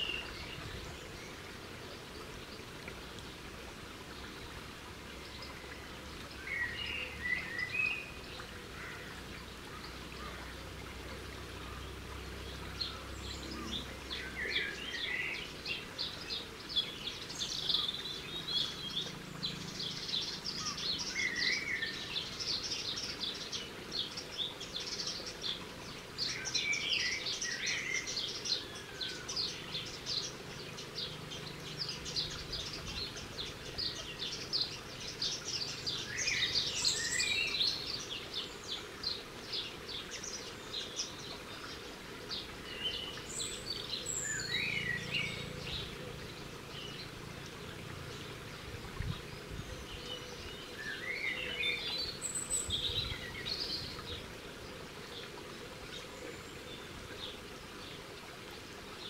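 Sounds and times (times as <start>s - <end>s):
small birds chirping: 0.0s - 3.5s, 4.1s - 59.0s.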